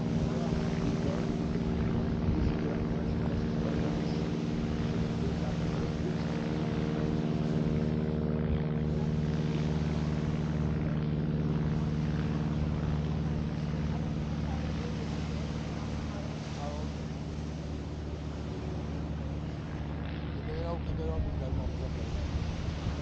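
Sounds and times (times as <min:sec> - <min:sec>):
motor engine droning: 0:00.0 - 0:23.0.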